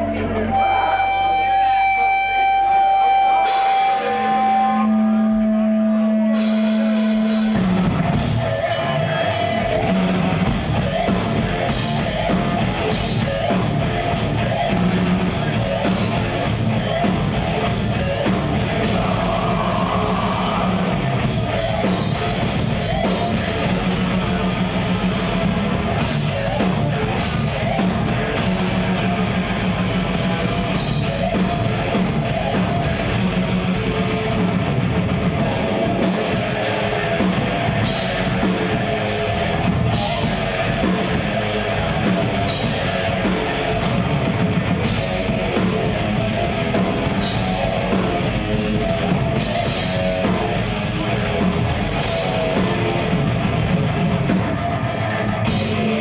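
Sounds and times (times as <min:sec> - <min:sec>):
death metal band playing: 0:00.0 - 0:56.0
heavily distorted guitars: 0:00.0 - 0:56.0
pounding drums: 0:06.4 - 0:56.0.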